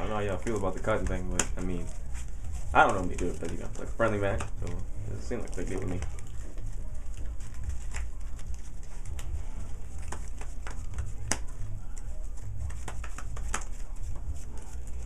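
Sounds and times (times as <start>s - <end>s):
steady low hum: 0.0s - 15.0s
trading cards shuffled on table: 0.0s - 15.0s.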